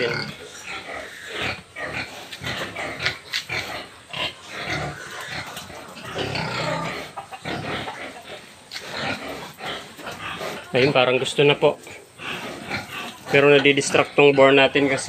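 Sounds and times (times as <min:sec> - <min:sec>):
pigs grunting: 0:00.0 - 0:15.0.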